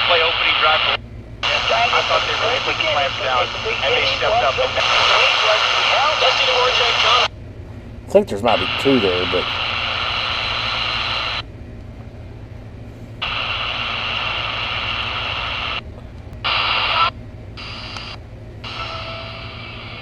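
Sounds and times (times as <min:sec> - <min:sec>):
radio static hiss: 0:00.0 - 0:07.3, 0:08.1 - 0:11.4, 0:13.2 - 0:15.8, 0:16.4 - 0:20.0.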